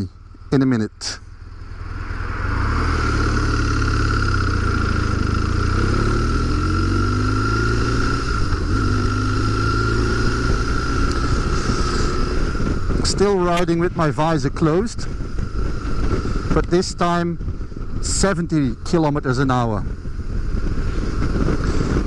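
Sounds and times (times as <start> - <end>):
motorcycle engine accelerating: 0.0 - 22.0
wind rush on microphone: 1.3 - 22.0.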